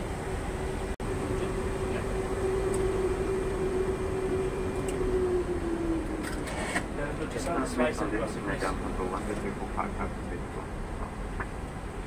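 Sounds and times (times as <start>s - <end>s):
broad hum: 0.0s - 12.0s
jet engine whine: 0.0s - 12.0s.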